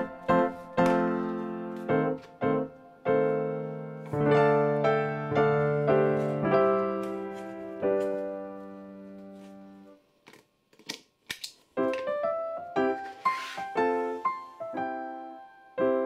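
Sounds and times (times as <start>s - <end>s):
gentle piano melody: 0.0s - 10.0s, 11.8s - 16.0s.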